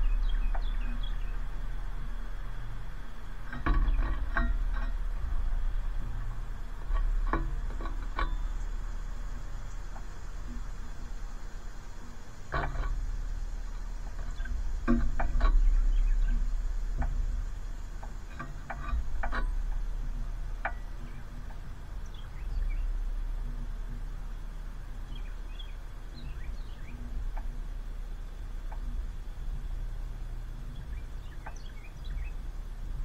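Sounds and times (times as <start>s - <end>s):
low rumble: 0.0s - 33.0s
small birds chirping: 0.0s - 33.0s.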